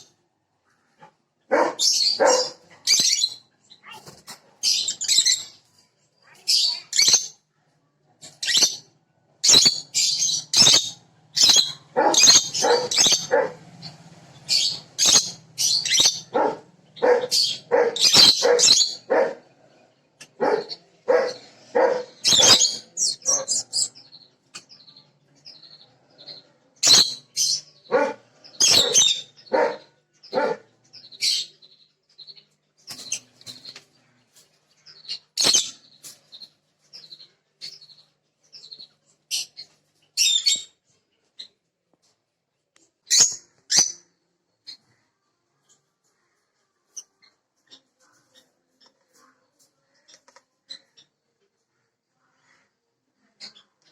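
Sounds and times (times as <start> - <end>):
birds chirping and squawking: 0.0 - 42.2, 42.8 - 53.9.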